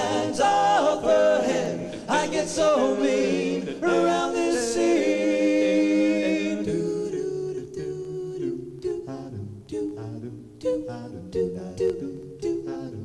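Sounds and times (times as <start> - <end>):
male a cappella harmony singing: 0.0 - 13.0.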